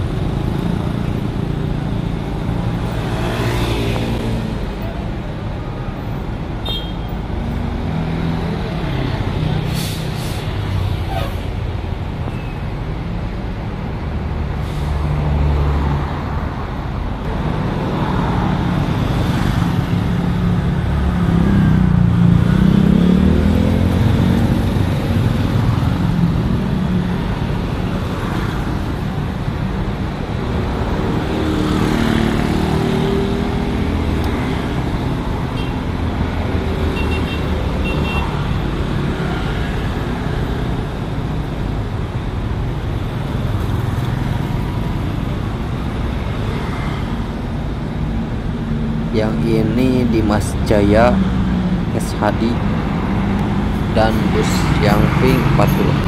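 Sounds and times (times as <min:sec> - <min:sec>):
bus diesel engines: 0:00.0 - 0:56.0
road traffic: 0:00.0 - 0:56.0.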